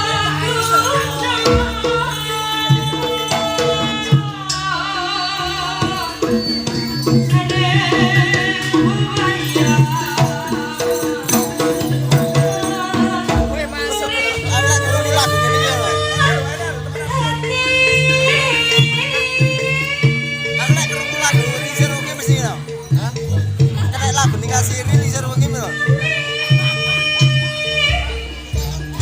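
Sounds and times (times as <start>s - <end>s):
hand drums beating: 0.0s - 29.0s.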